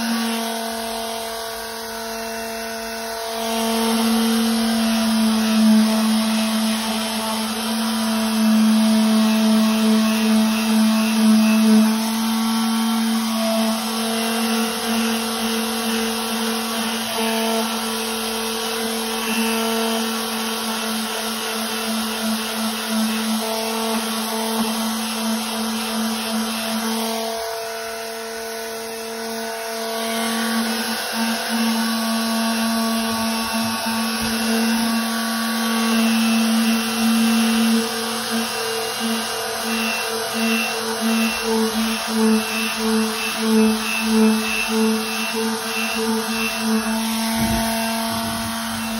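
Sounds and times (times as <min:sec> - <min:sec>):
orbital sander sanding rubber: 0:00.0 - 0:48.9.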